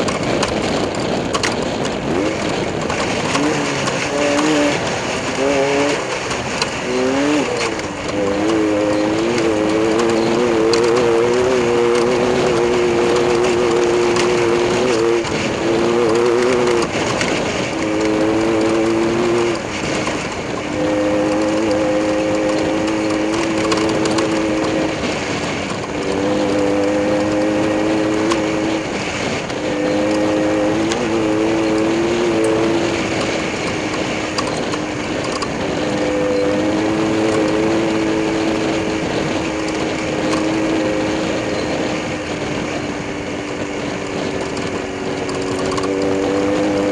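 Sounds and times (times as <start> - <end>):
race car engine running: 0.0 - 46.9.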